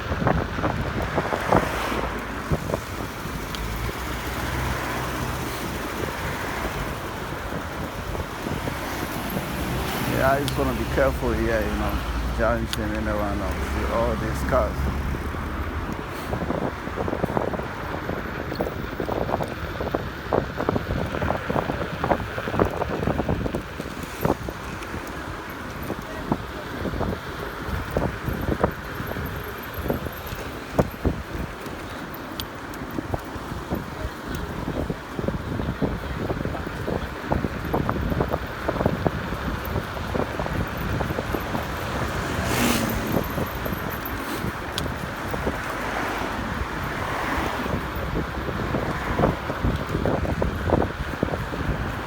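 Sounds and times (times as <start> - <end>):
road noise: 0.0 - 52.0
wind buffeting microphone: 0.0 - 52.0.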